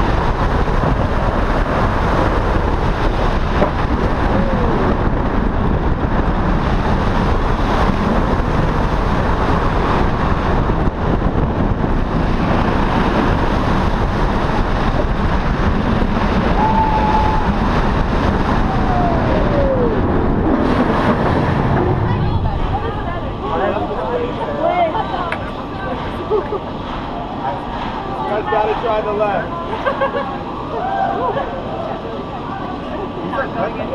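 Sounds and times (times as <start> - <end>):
roller coaster train rumbling: 0.0 - 33.9
wind rushing over microphone: 0.0 - 33.9.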